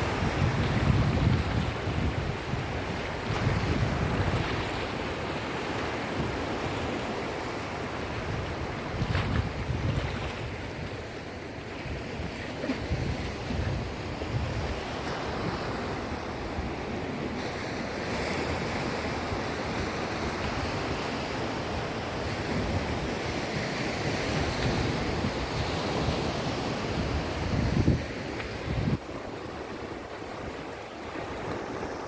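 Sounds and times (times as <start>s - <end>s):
sea waves washing: 0.0s - 32.0s
wind buffeting microphone: 0.0s - 32.0s.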